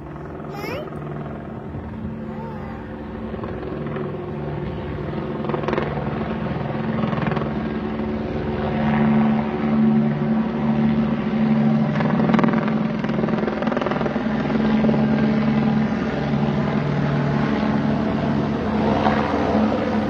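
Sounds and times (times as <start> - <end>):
helicopters flying: 0.0 - 20.0.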